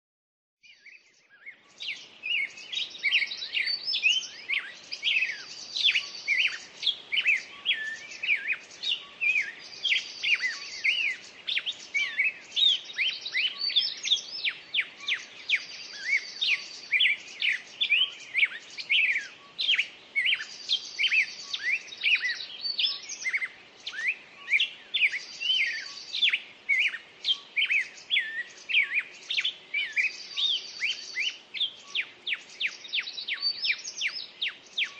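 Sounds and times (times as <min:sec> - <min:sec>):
songbirds chirping and singing: 0:00.6 - 0:34.9.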